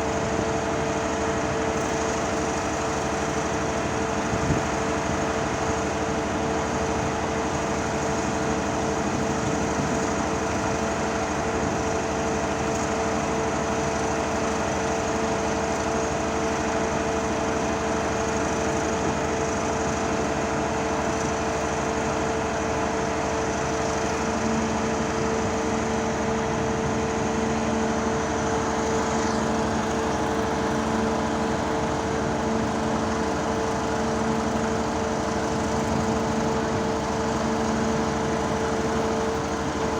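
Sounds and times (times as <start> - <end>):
pile driver engine drone: 0.0 - 39.9.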